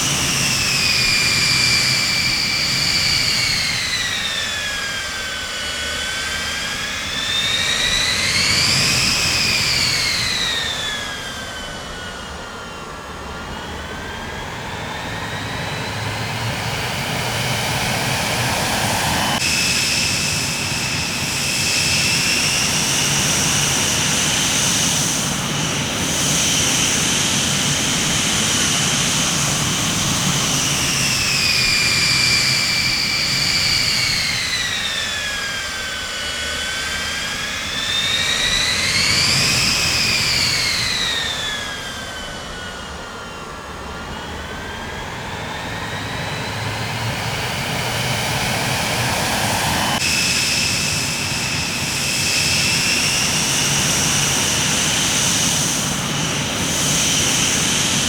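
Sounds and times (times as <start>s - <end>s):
high turbine whine: 0.0s - 58.0s
jet engines roaring: 0.0s - 58.0s.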